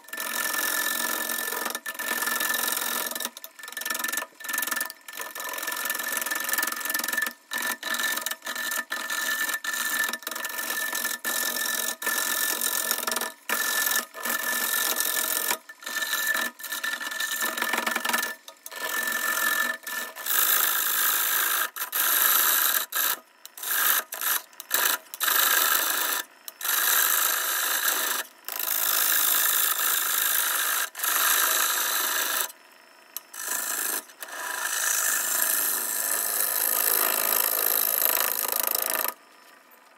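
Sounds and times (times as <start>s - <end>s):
lathe tool scraping wood: 0.0s - 32.5s, 33.3s - 39.2s.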